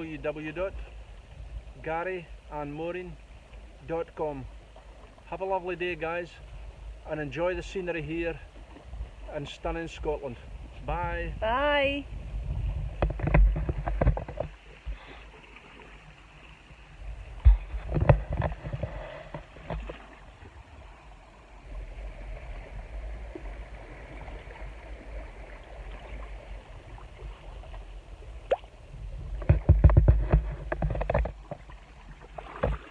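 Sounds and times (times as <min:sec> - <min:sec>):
kayak paddle splashing: 0:00.0 - 0:10.8, 0:11.4 - 0:32.9.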